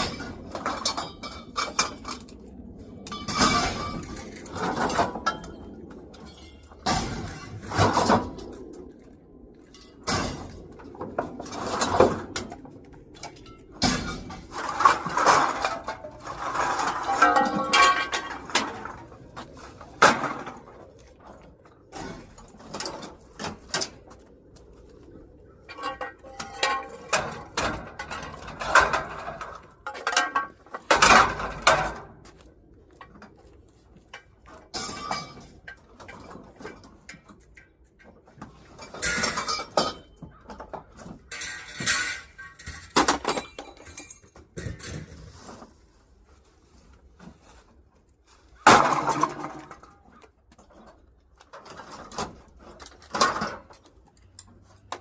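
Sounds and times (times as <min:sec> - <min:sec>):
scrap metal clanking and rattling: 0:00.0 - 0:08.6, 0:09.6 - 0:24.3, 0:25.4 - 0:32.4, 0:33.0 - 0:55.0.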